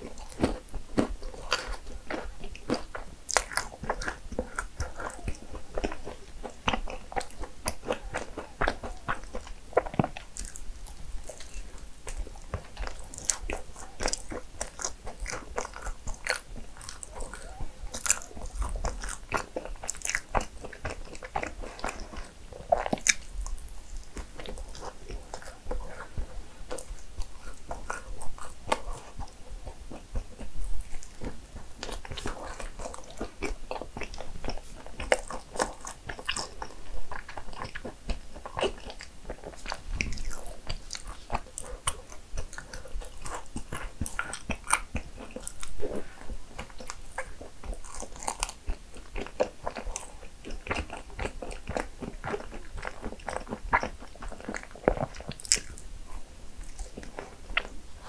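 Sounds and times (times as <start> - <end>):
person chewing and biting: 0.0 - 58.0.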